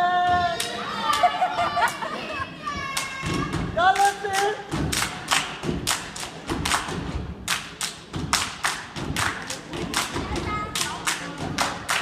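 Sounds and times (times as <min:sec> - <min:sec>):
stomping and clapping rhythm: 0:00.1 - 0:12.0.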